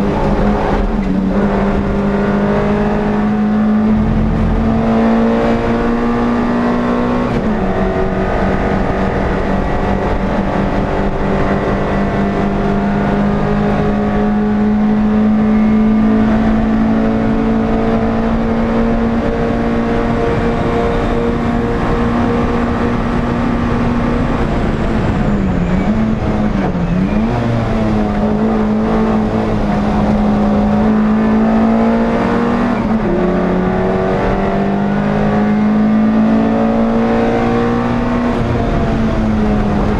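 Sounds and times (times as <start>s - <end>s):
racing car engine at high revs: 0.0s - 39.9s.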